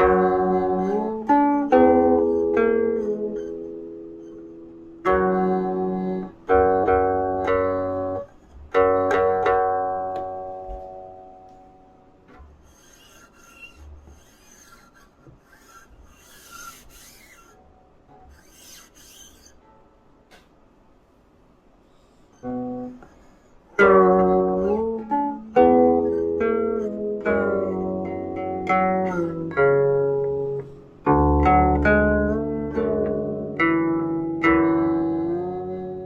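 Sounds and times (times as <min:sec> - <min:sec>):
zither plucked notes: 0:00.0 - 0:20.6, 0:22.4 - 0:36.0.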